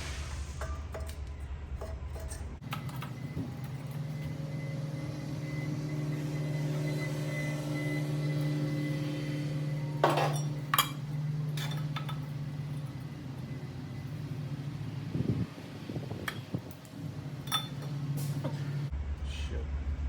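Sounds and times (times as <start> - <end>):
mechanical hum with high whine: 0.0 - 20.0.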